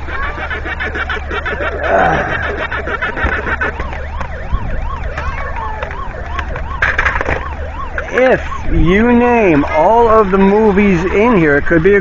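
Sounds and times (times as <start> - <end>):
siren wailing and yelping: 0.0 - 12.0.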